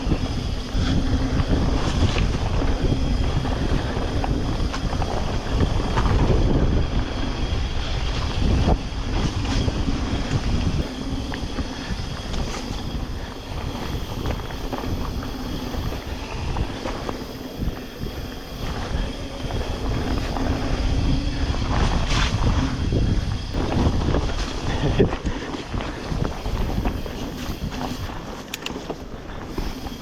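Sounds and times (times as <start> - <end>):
tyres rumbling on wet trail: 0.0 - 30.0
wind buffeting microphone: 0.0 - 30.0.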